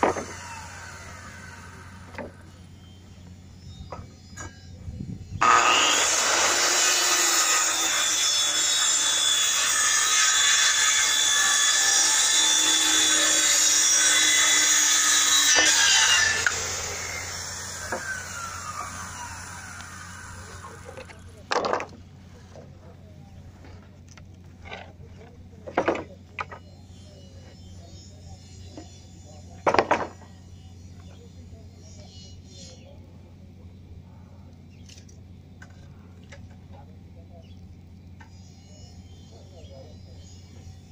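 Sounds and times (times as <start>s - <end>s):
circular saw cutting plywood: 0.0s - 22.7s, 23.6s - 33.0s, 38.2s - 40.9s.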